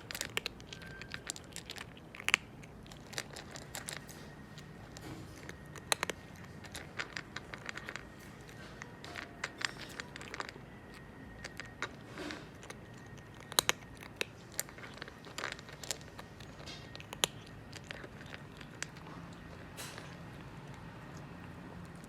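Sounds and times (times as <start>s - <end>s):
cat crunching food: 0.0s - 22.0s.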